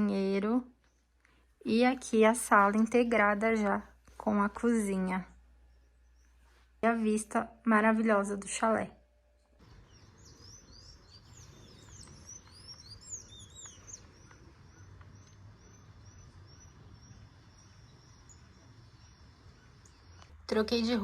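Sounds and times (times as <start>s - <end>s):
birds chirping: 0.0s - 8.5s, 9.6s - 21.0s.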